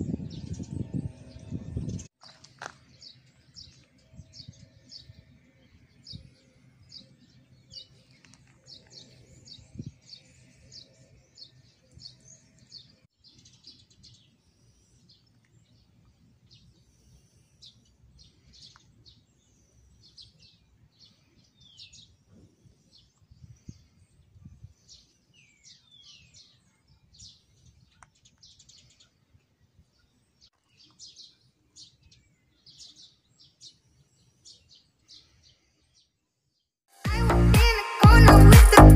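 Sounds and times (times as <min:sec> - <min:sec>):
small birds chirping: 0:00.0 - 0:36.7.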